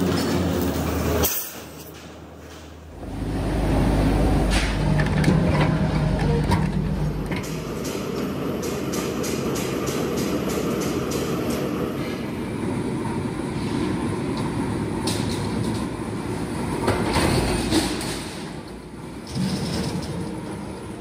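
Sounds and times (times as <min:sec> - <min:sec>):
factory machinery rumbling: 0:00.0 - 0:21.0.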